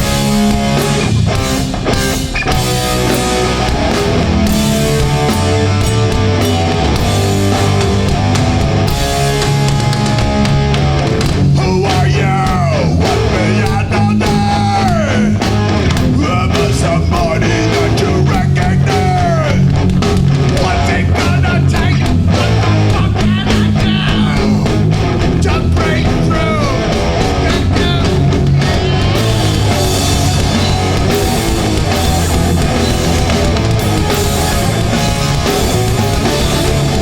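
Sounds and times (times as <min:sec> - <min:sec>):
high sliding guitar line: 0:00.0 - 0:37.0
punk band playing live: 0:00.0 - 0:37.0.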